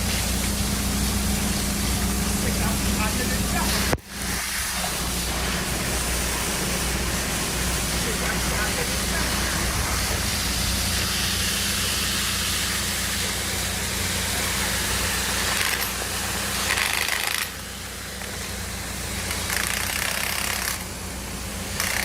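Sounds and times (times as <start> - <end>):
high pressure water jetting: 0.0 - 22.0
low machine hum: 0.0 - 22.0.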